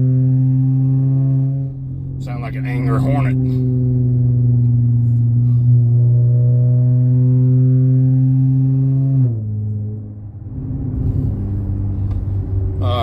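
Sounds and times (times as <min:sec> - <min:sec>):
car exhaust droning: 0:00.0 - 0:13.0.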